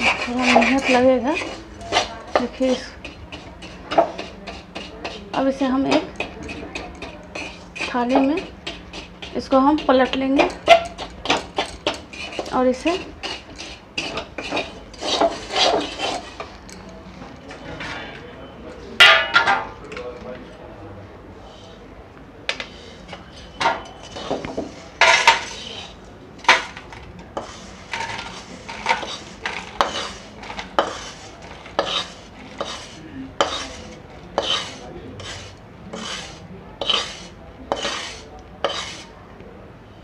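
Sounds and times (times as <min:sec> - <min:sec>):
metal spatula scraping a pan: 0:00.0 - 0:16.6, 0:22.6 - 0:39.1.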